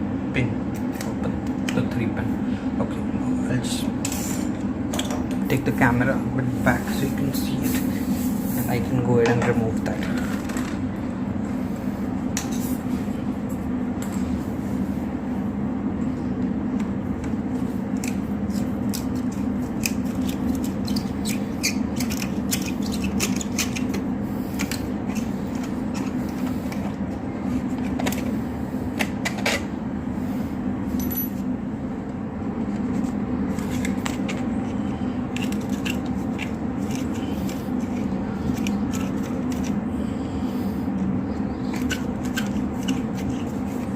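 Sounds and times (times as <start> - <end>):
low background hum: 0.0 - 43.9.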